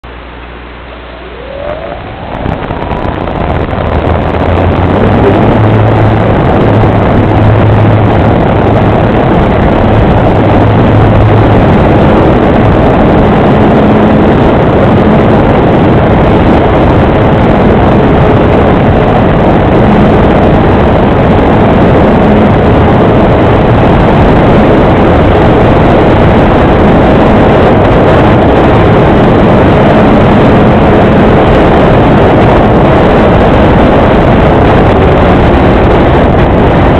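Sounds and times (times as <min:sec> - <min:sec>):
model plane propeller and wind: 0:00.0 - 0:36.9.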